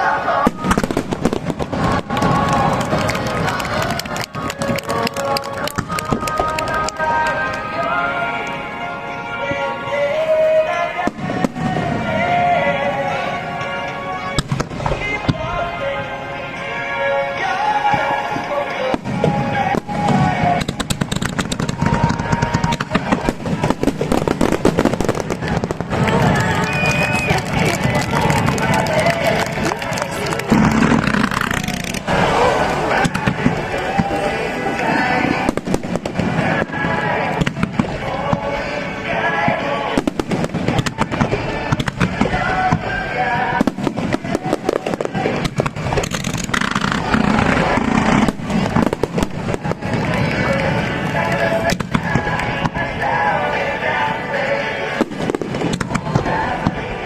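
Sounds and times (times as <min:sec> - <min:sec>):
fireworks bangs and crackles: 0:00.0 - 0:08.6, 0:09.5 - 0:16.8, 0:17.7 - 0:57.0
music playing: 0:00.0 - 0:57.0.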